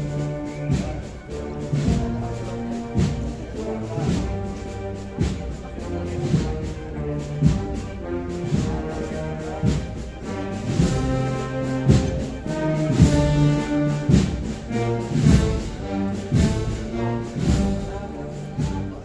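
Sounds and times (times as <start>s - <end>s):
brass band playing a slow march: 0.0s - 19.0s
heavy drum strokes: 0.0s - 19.0s.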